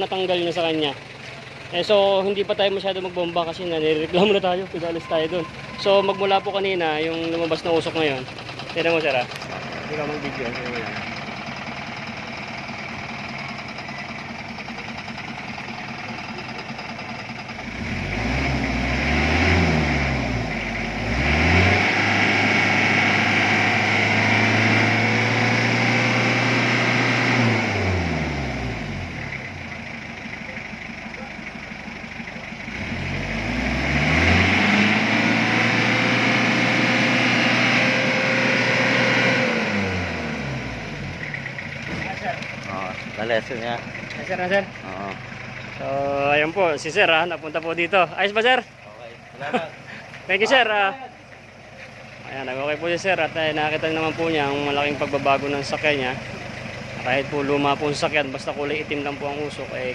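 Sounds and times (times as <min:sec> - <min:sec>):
van engine idling and revving: 0:00.0 - 0:59.9.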